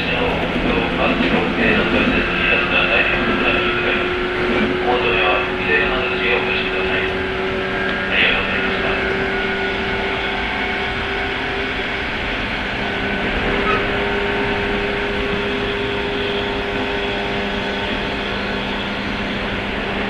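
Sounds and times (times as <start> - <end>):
train motor low hum: 0.0 - 20.0
train rolling rumble: 0.0 - 20.0.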